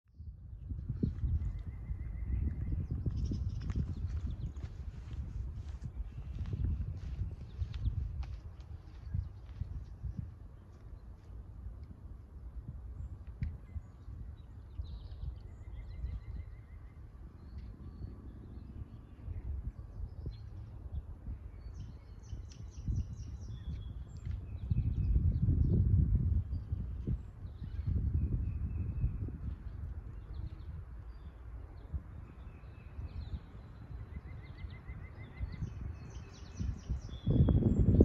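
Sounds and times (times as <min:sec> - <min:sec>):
songbirds chirping and trilling: 0:00.1 - 0:38.0
steady low rumble: 0:00.1 - 0:38.0
wind buffeting microphone: 0:00.1 - 0:38.0.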